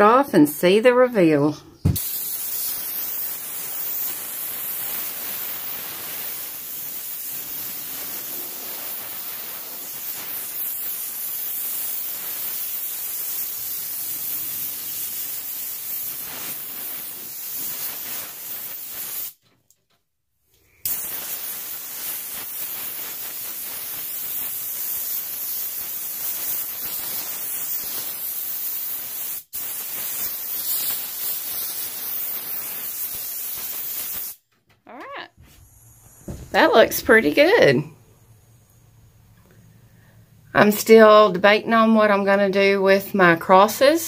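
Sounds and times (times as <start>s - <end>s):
compressed air hissing: 1.8s - 19.4s, 20.6s - 34.4s, 35.4s - 40.5s.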